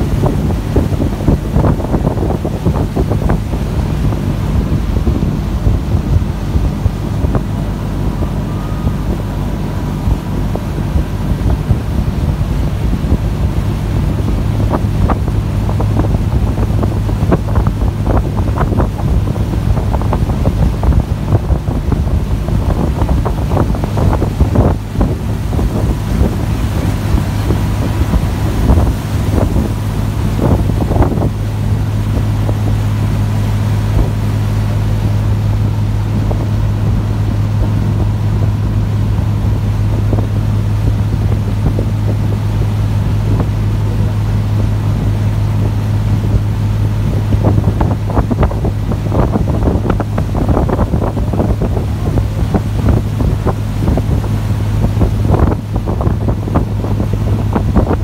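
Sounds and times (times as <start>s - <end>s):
boat engine droning: 0.0s - 58.0s
water splashing against hull: 0.0s - 58.0s
wind buffeting microphone: 0.0s - 58.0s.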